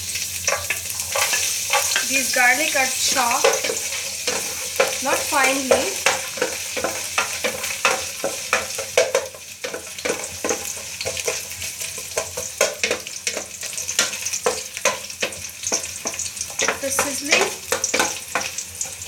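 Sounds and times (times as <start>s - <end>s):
garlic sizzling in hot oil: 0.0s - 19.0s
utensil scraping a pan: 0.2s - 19.0s.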